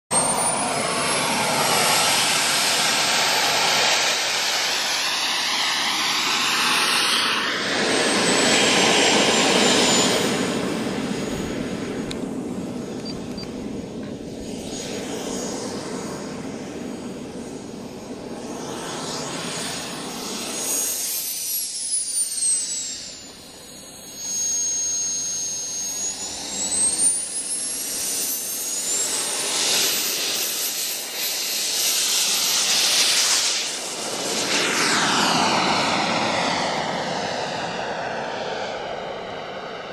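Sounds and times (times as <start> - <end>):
model jet engine whining: 0.1 - 39.9.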